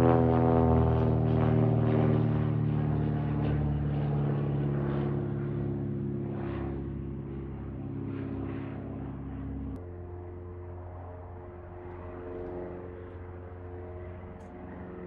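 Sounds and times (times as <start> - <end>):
light plane engine flying overhead: 0.0 - 15.0.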